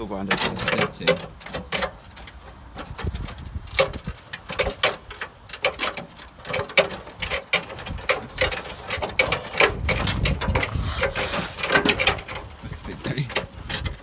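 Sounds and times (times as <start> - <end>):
metal clicks and knocks on car body: 0.0 - 14.0.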